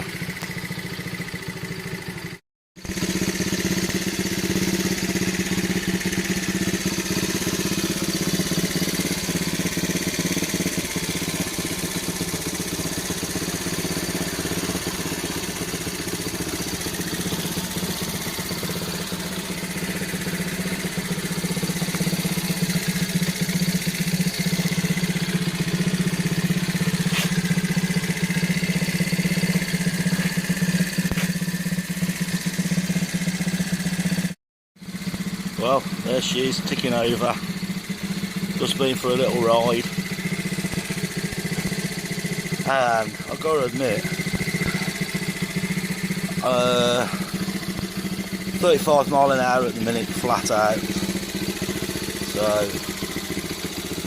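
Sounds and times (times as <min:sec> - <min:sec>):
small motorcycle engine idling: 0:00.0 - 0:54.0.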